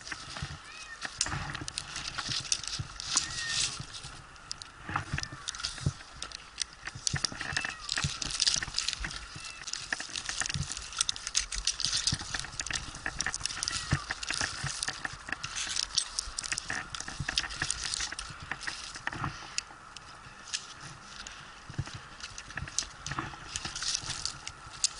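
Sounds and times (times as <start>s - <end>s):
climbing gear knocking and scraping: 0.0s - 24.9s
rope rubbing against bark: 0.0s - 24.9s.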